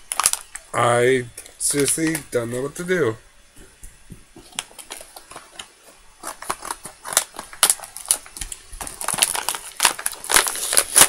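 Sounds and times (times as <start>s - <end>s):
plastic packaging crinkling: 0.0s - 3.0s, 4.2s - 11.0s.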